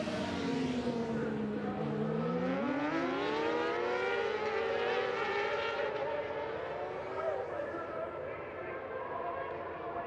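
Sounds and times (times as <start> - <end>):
motorcycle engines racing: 0.0 - 9.8.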